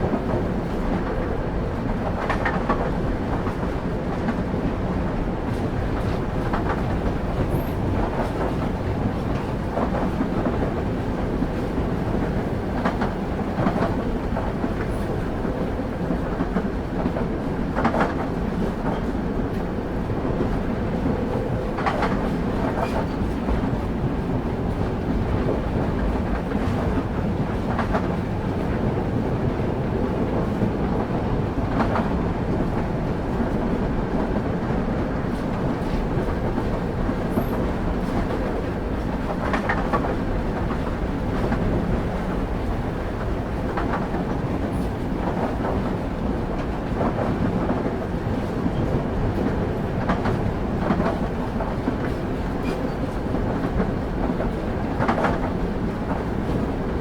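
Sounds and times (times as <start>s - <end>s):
train carriage rumble: 0.0s - 57.0s.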